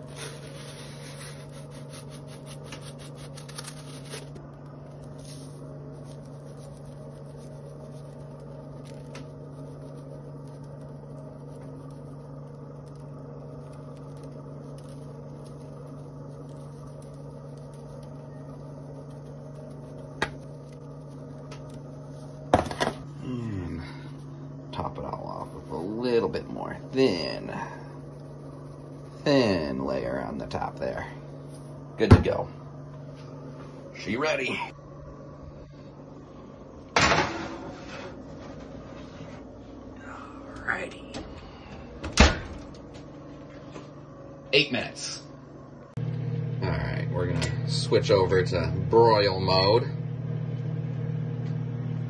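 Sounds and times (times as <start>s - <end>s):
kitchen appliance humming: 0.0s - 52.0s.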